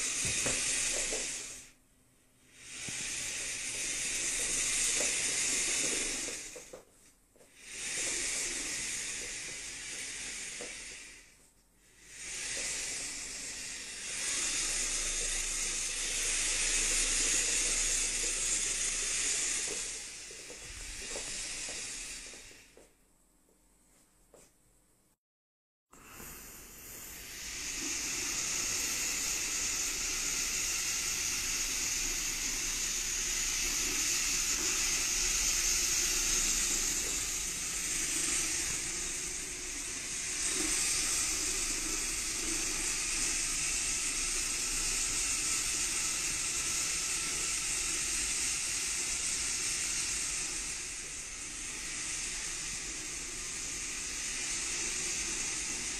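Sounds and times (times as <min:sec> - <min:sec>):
steady hiss: 0:00.0 - 0:24.6, 0:26.0 - 0:55.9.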